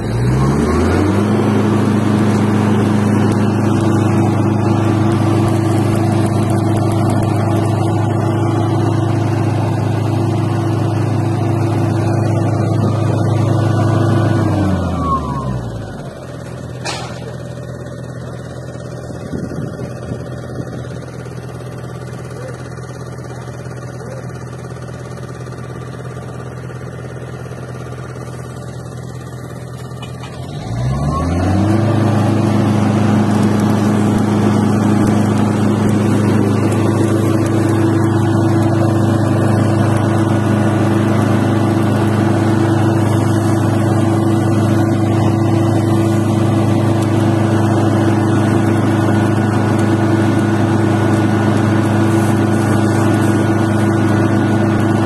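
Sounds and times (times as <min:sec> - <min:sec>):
diesel generator engine running: 0:00.0 - 0:55.0
welding arc crackle: 0:00.0 - 0:55.0.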